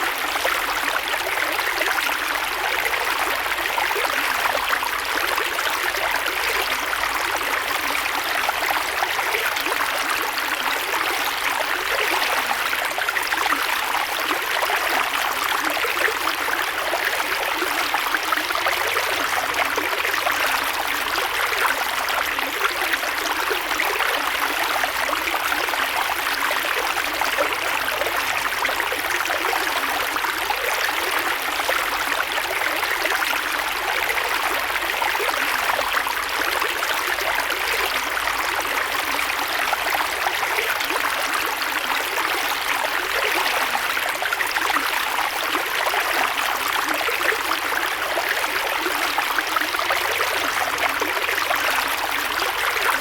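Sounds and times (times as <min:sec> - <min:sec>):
creek water burbling: 0:00.0 - 0:53.0.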